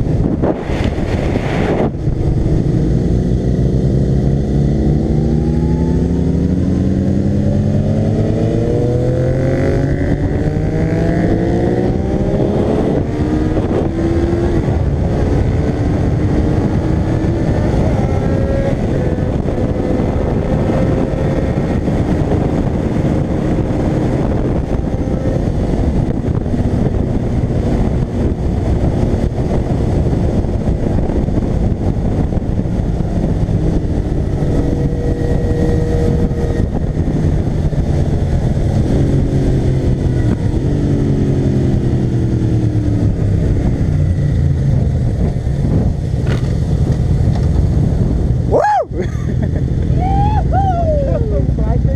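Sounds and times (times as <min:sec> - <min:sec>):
motorcycle engine accelerating: 0:00.0 - 0:51.9
wind rush on microphone: 0:00.0 - 0:51.9.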